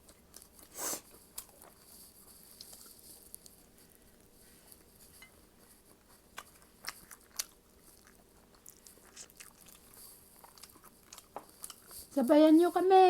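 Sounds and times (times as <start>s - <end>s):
person chewing: 0.0s - 12.2s.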